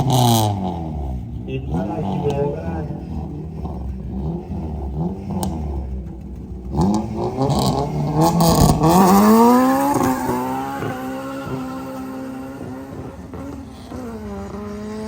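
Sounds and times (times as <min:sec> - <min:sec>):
car engine revving and accelerating: 0:00.0 - 0:15.0
sharp exhaust cracks: 0:00.0 - 0:15.0.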